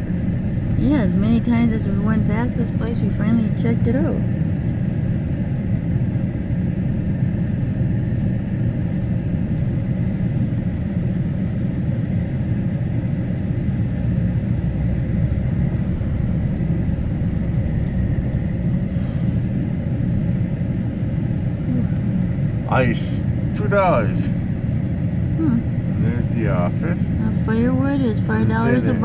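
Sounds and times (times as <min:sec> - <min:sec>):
road noise: 0:00.0 - 0:29.0
truck engine rumble from cab: 0:00.0 - 0:29.0.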